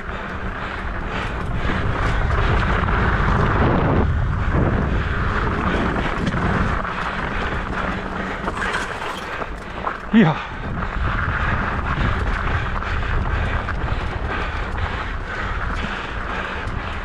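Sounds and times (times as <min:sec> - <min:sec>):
bike tyre and frame rattle: 0:00.0 - 0:17.0
wind on microphone: 0:00.0 - 0:17.0.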